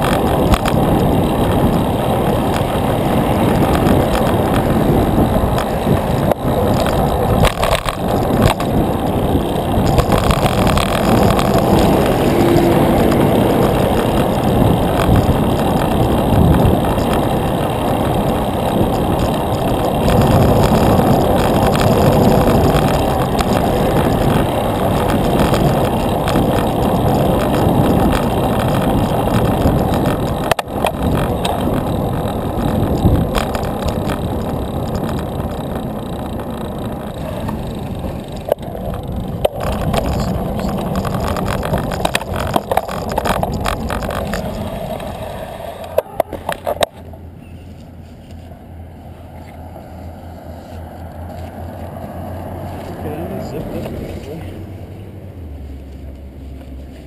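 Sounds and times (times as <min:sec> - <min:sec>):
wind buffeting microphone: 0:00.0 - 0:47.7
road noise: 0:00.0 - 0:57.0.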